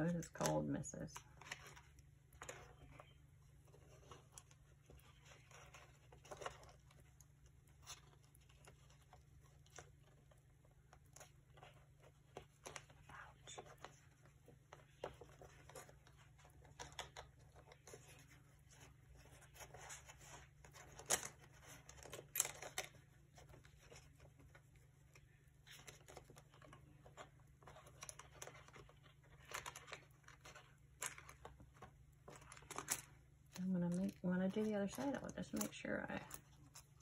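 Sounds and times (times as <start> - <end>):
paper rustling: 1.2 - 37.0.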